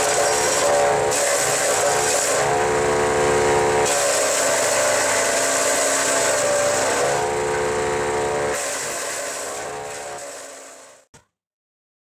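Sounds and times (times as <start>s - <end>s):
wood chipper engine running: 0.0s - 11.1s.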